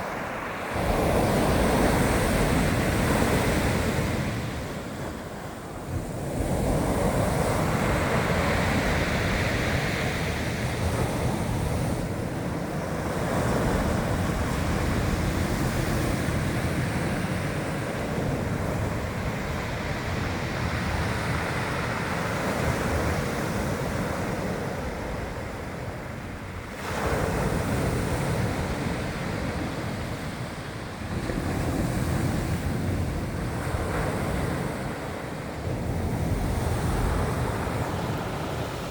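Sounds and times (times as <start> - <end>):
sea waves crashing on shore: 0.0 - 38.9
wind buffeting microphone: 0.0 - 38.9.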